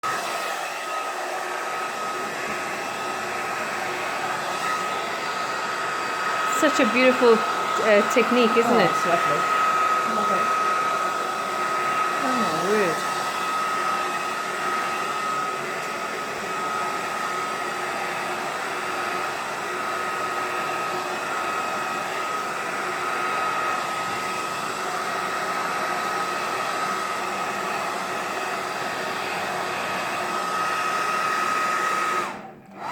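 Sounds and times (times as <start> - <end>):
hairdryer running: 0.0 - 32.9.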